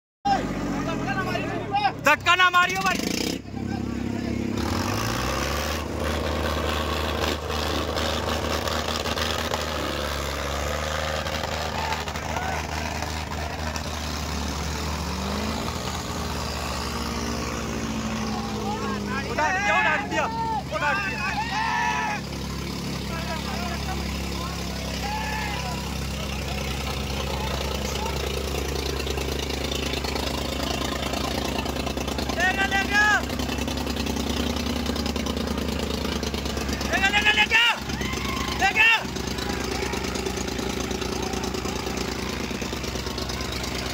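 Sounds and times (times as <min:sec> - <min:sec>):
tractor diesel engines revving: 0:00.3 - 0:43.9.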